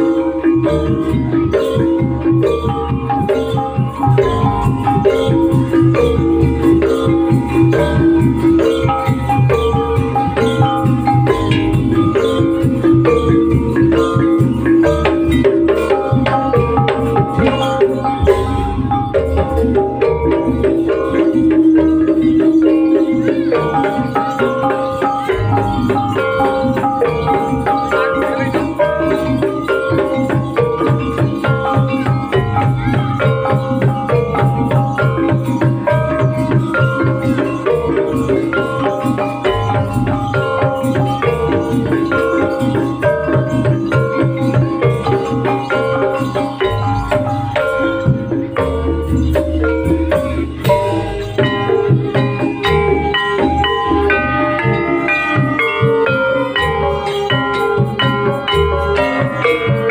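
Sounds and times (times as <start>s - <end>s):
gamelan music: 0.0s - 59.9s.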